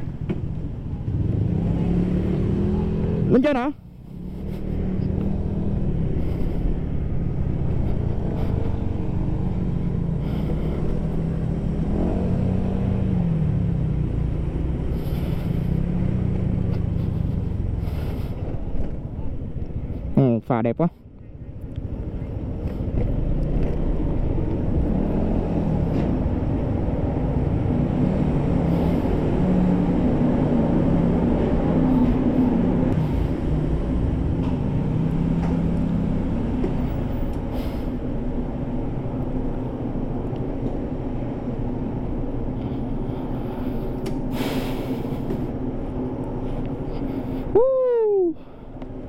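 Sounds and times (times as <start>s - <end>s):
vehicle engine rumbling: 0.0s - 49.0s.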